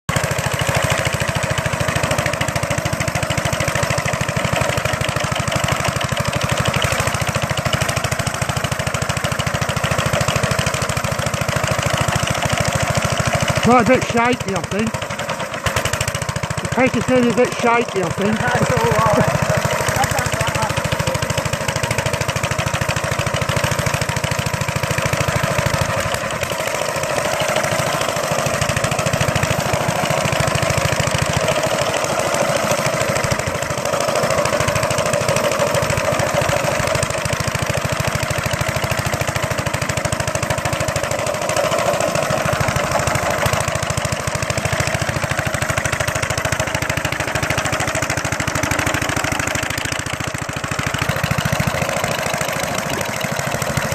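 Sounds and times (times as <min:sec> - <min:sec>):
small engine running: 0:00.1 - 0:53.9.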